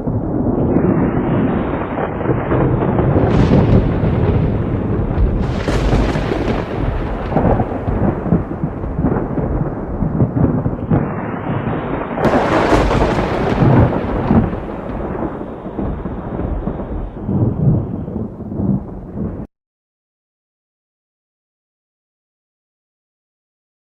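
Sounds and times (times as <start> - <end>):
thunder cracks and rumble: 0.0 - 19.5.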